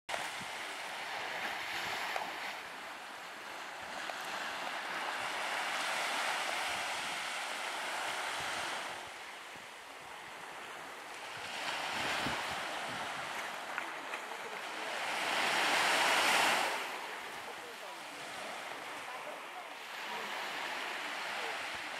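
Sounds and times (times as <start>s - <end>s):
small waves washing onto sand: 0.1s - 21.9s.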